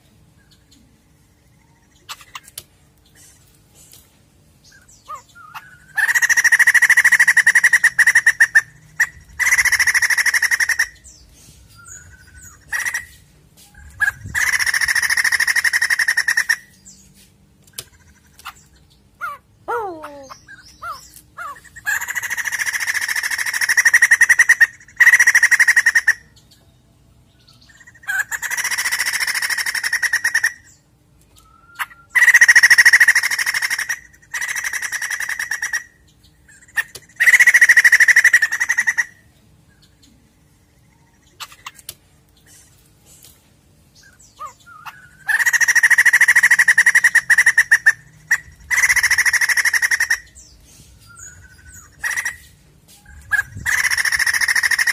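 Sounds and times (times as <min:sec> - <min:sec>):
bird harsh chattering calls: 0:01.6 - 0:03.5, 0:04.6 - 0:26.4, 0:27.4 - 0:30.8, 0:31.6 - 0:40.1, 0:40.9 - 0:43.2, 0:44.0 - 0:54.9.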